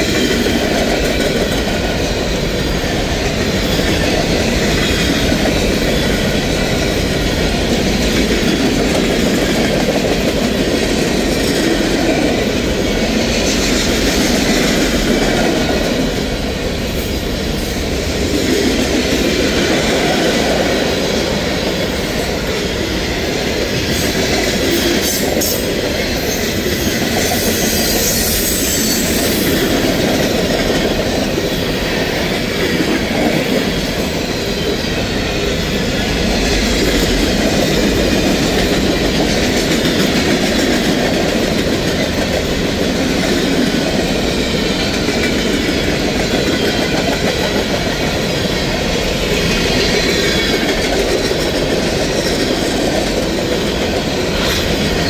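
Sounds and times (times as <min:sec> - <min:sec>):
train wheels rumbling and rattling: 0:00.0 - 0:55.0.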